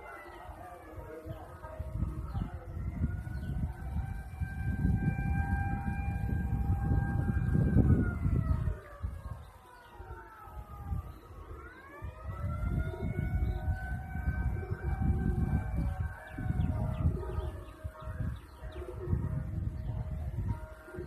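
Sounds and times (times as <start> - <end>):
siren wailing: 0.0 - 21.0.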